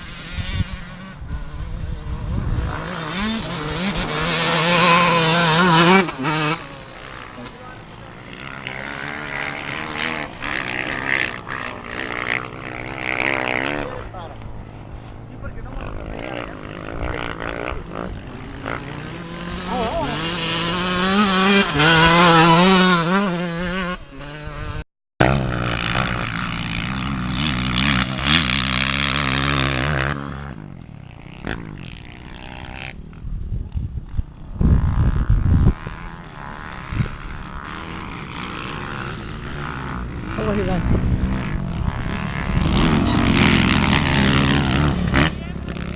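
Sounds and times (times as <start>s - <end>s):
race engines revving: 0.0s - 45.9s.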